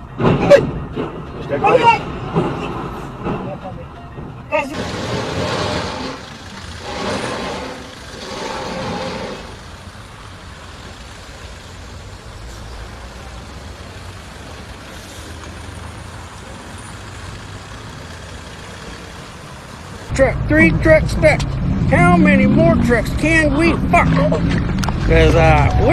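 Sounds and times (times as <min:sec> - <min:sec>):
low engine rumble: 0:02.1 - 0:25.9
vehicle rushing past: 0:04.7 - 0:25.9.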